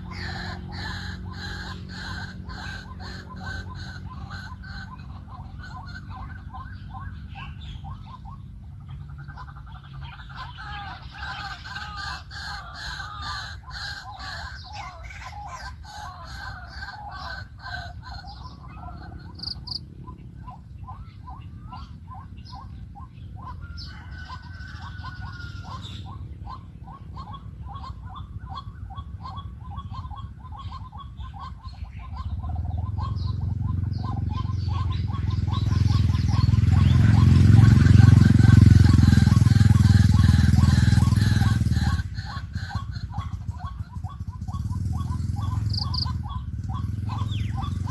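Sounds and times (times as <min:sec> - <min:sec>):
bird harsh calls: 0:00.0 - 0:47.9.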